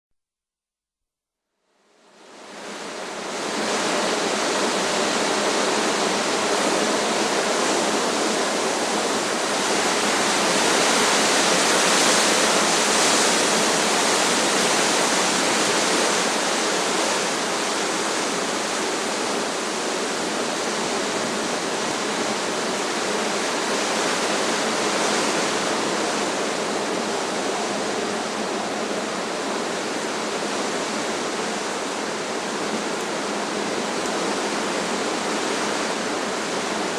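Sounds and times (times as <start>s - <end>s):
strong wind through trees: 1.8s - 36.9s.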